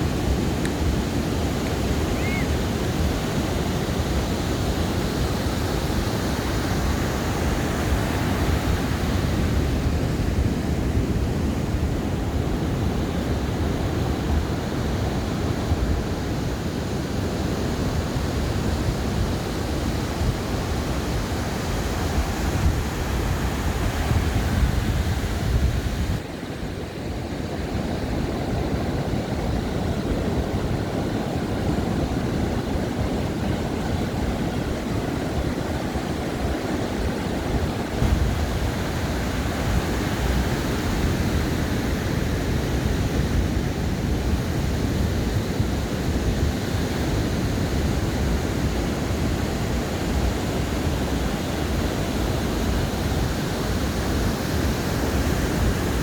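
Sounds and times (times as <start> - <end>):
ocean surf washing onto beach: 0.0 - 56.0.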